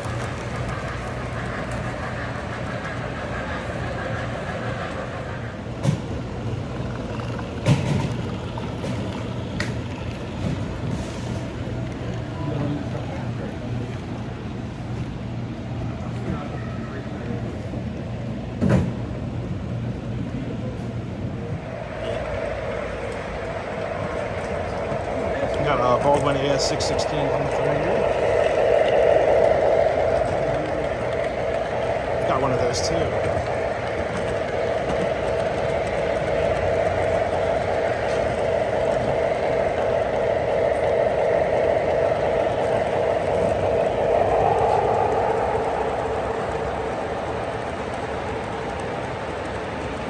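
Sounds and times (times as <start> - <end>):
model trains rumbling: 0.0 - 50.0.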